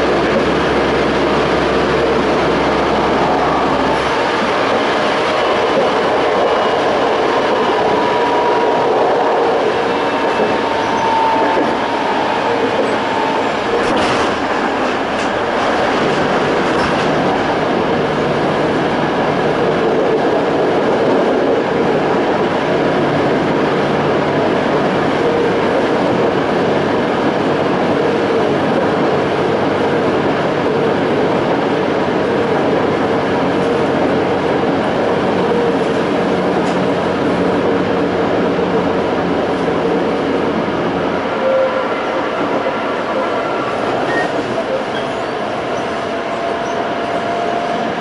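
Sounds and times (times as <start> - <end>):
wheel on rail rumble: 0.0 - 48.0.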